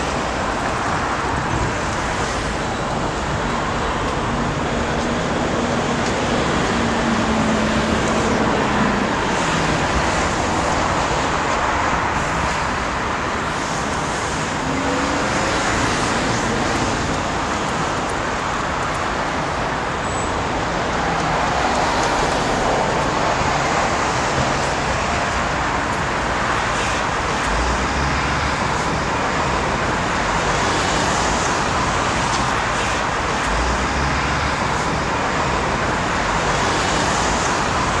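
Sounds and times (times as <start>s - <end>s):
road traffic rushing: 0.0s - 38.0s.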